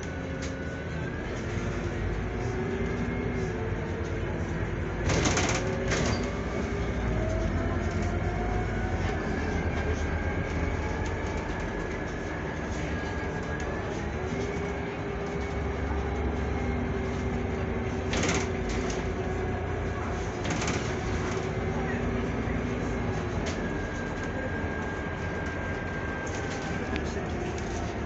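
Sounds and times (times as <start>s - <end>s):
bus engine whining: 0.0s - 28.0s
road rumble: 0.0s - 28.0s.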